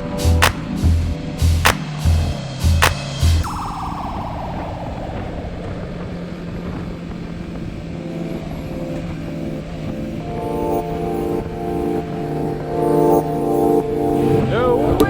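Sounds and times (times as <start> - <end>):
music with sustained notes: 0.0 - 15.0.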